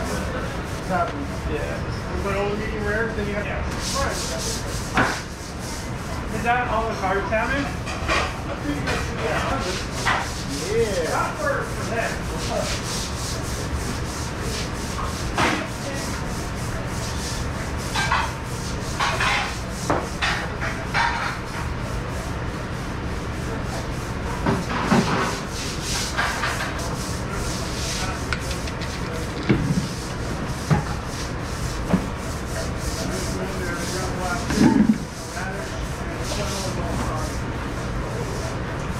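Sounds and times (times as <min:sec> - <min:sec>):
deck brush scrubbing wet floor: 0:00.0 - 0:07.5, 0:09.0 - 0:38.9
steady low hum: 0:00.0 - 0:38.9.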